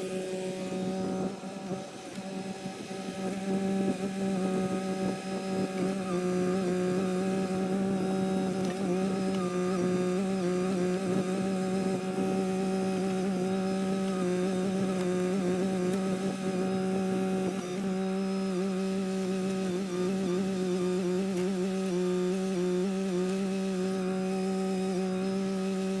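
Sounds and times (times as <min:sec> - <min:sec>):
excavator engine droning: 0:00.0 - 0:26.0.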